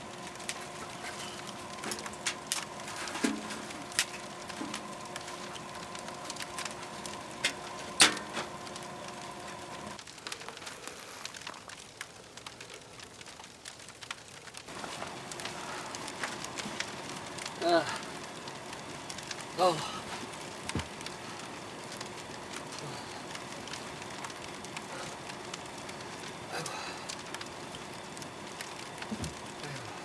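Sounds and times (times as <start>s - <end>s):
faint steady hum: 0.0s - 11.3s, 14.7s - 30.0s
wood fire crackling and popping: 0.0s - 30.0s.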